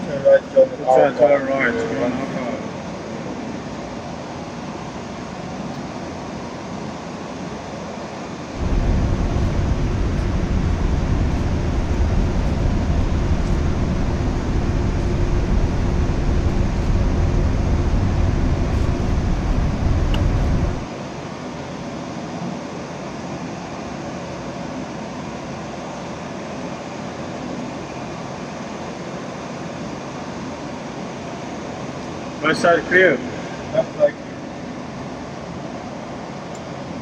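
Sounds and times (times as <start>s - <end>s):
cockpit air conditioning hiss: 0.0s - 37.0s
jet engine rumble and hum: 0.0s - 37.0s.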